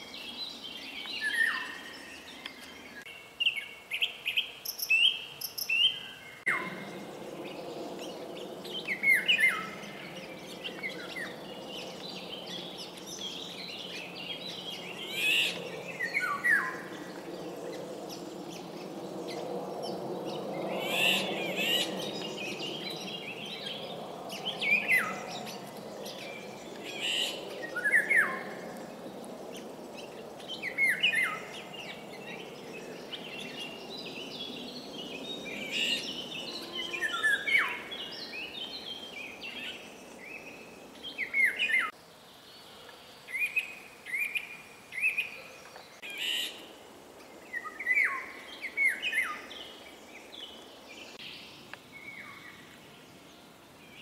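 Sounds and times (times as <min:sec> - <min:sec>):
songbirds singing: 0:00.0 - 0:54.0
low steady rush: 0:05.7 - 0:54.0.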